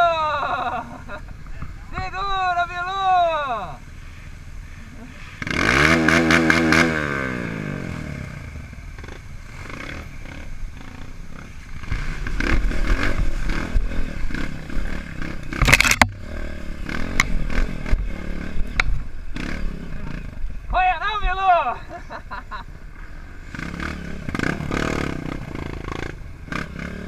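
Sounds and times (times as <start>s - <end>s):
motorcycle engine revving and rumbling: 0.0s - 21.0s, 21.7s - 27.0s.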